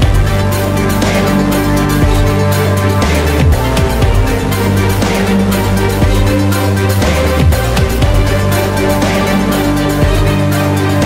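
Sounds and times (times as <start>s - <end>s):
bass-heavy background music: 0.0s - 11.0s.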